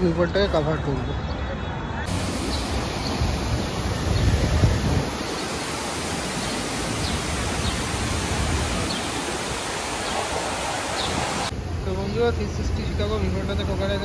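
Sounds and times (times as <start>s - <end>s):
city street background noise: 0.0s - 14.0s.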